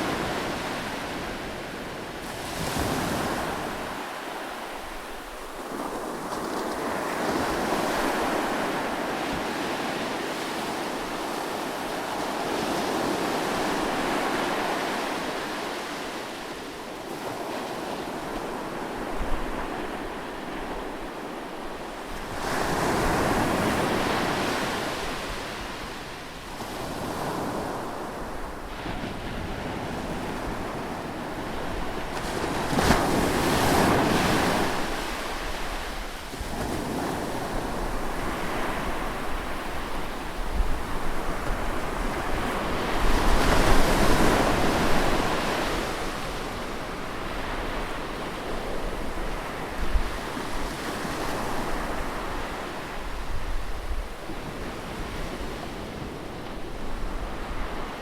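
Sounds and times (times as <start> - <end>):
ocean surf breaking on a beach: 0.0 - 58.0.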